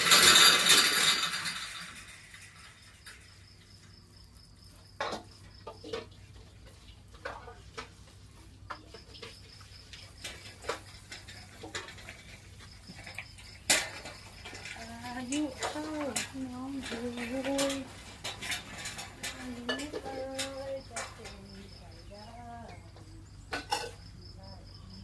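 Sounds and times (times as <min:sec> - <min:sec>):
household things clattering: 0:00.0 - 0:24.3
crickets trilling: 0:00.0 - 0:25.0.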